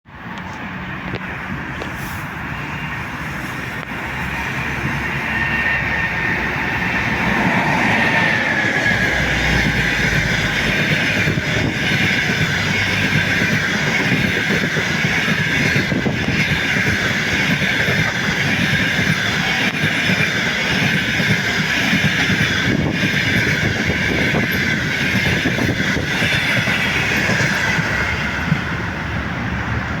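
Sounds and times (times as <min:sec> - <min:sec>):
train wheels rumbling on rails: 0:00.1 - 0:30.0
locomotive high whine: 0:00.4 - 0:30.0.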